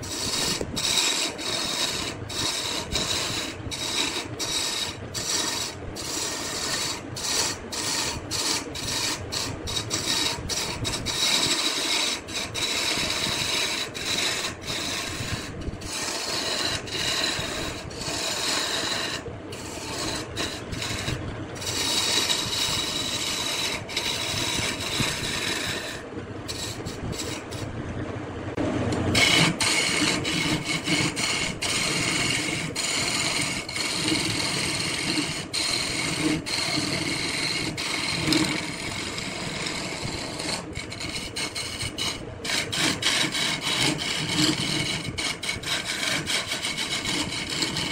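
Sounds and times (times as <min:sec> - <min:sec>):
tool scraping wood on lathe: 0:00.0 - 0:27.7, 0:28.9 - 0:47.9.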